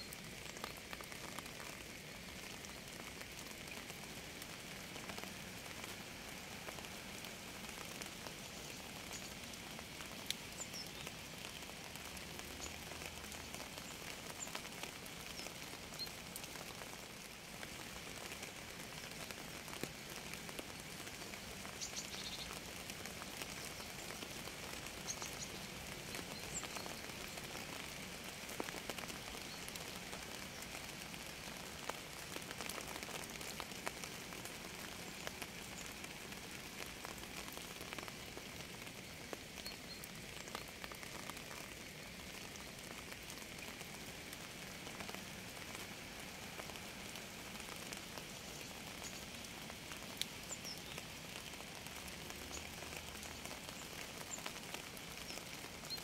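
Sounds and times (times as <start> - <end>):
rain drops ticking on surface: 0.0 - 56.0.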